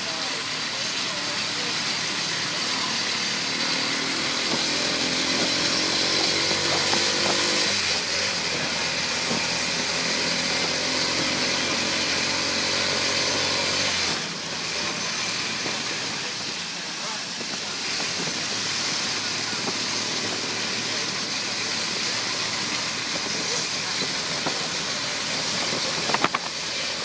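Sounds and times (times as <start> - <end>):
road noise: 0.0 - 27.0
small motorcycle engine running: 0.0 - 27.0
wind: 0.0 - 27.0.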